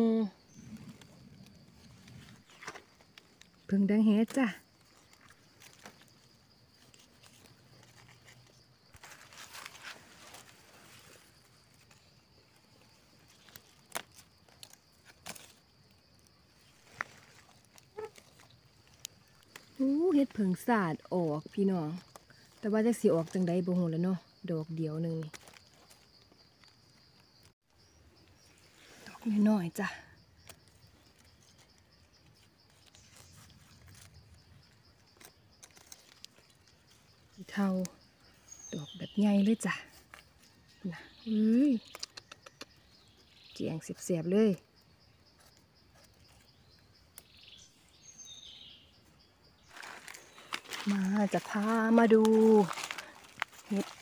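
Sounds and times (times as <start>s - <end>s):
insects chirring: 0.0s - 54.0s
rustling of dry leaves and twigs: 0.0s - 54.0s.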